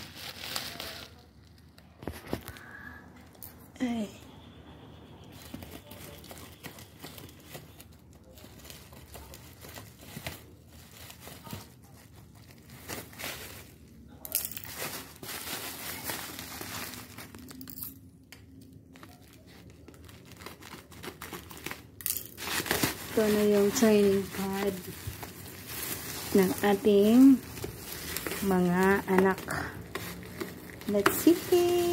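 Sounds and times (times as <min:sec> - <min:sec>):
plastic packaging crinkling: 0:00.0 - 0:02.9, 0:05.2 - 0:31.9.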